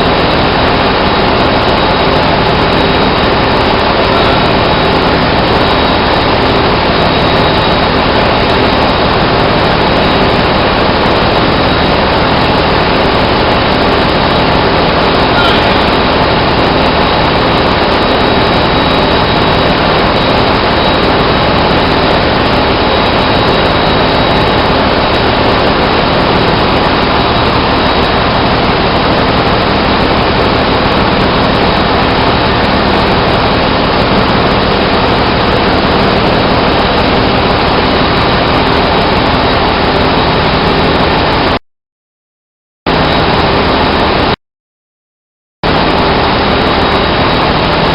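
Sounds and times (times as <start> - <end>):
engine room machinery din: 0.0 - 41.6, 42.9 - 44.4, 45.6 - 47.9
thin high whine: 0.0 - 41.6.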